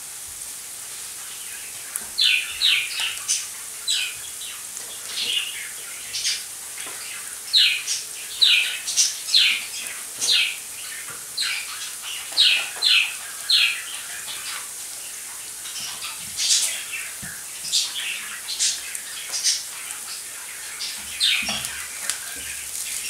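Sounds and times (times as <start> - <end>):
onions sizzling in oil: 0.0 - 23.0
bird chirping: 1.2 - 23.0.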